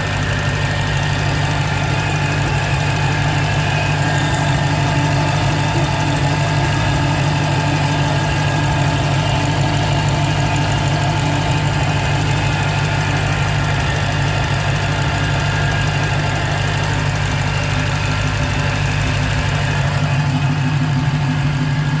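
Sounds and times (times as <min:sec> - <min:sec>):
car engine idling: 0:00.0 - 0:22.0
supercharger whine: 0:00.0 - 0:22.0.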